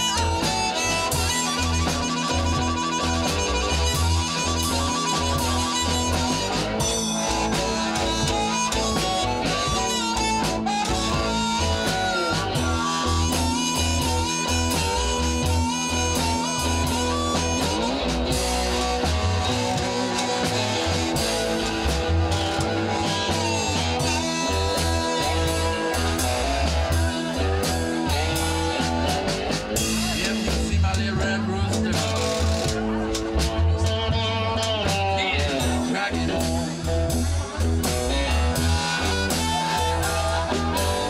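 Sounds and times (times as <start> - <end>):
drums: 0.0 - 41.0
electric guitars: 0.0 - 41.0
harmonica: 0.0 - 41.0.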